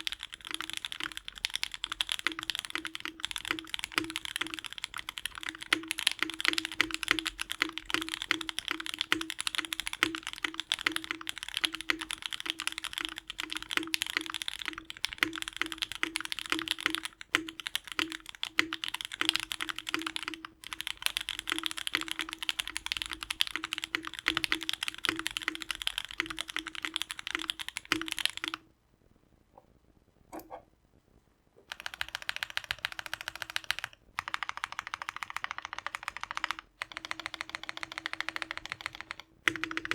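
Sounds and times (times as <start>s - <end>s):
mechanical keyboard typing: 0.0s - 28.6s, 31.7s - 39.9s.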